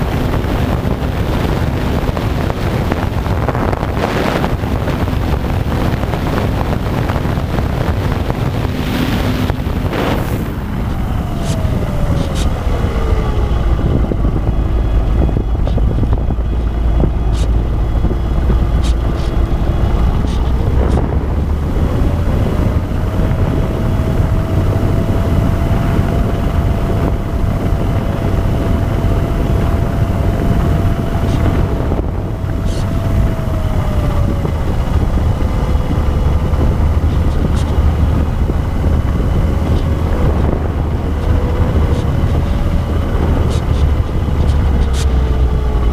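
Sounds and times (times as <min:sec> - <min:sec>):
electric motor and propeller whine: 0:00.0 - 0:45.9
wind buffeting microphone: 0:00.0 - 0:45.9.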